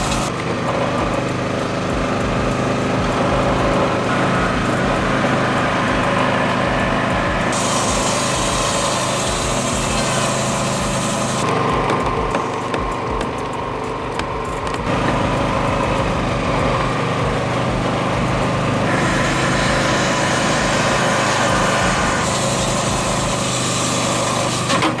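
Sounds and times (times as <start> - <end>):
machine engine running: 0.0 - 25.0
mechanical rushing noise: 0.0 - 25.0.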